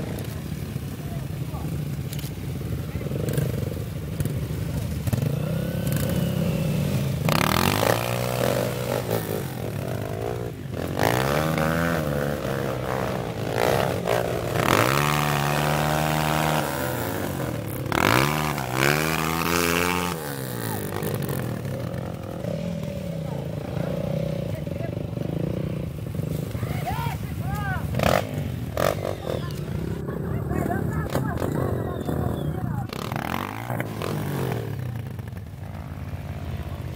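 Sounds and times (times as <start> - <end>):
dirt bike engines revving: 0.0 - 36.9.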